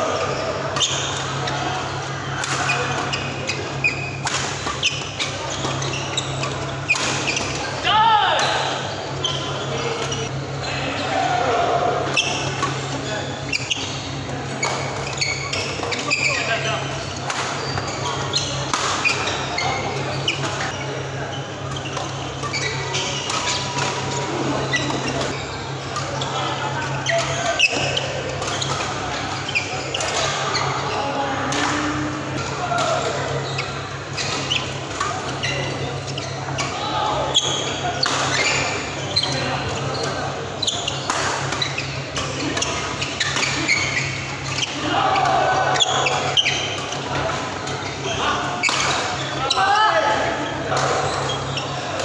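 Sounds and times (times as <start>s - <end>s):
sports shoes squeaking: 0.0s - 7.8s, 8.4s - 11.1s, 12.1s - 32.0s, 32.6s - 52.0s.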